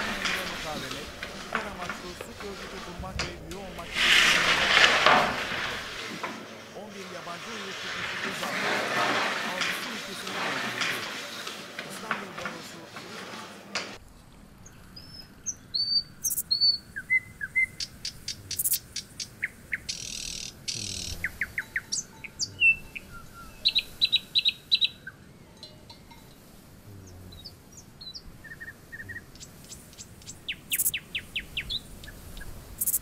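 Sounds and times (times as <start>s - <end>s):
hiss-like buzz: 0.0s - 33.0s
songbirds chirping: 0.0s - 33.0s.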